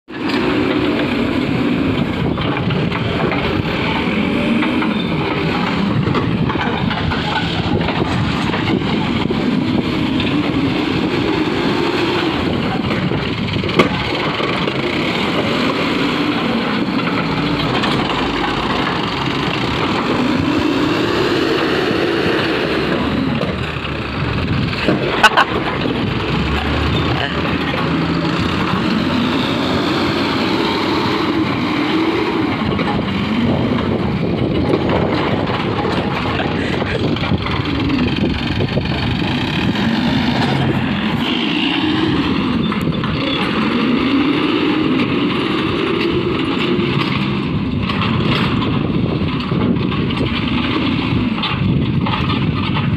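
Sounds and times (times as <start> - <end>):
diesel engine revving: 0.1 - 52.9.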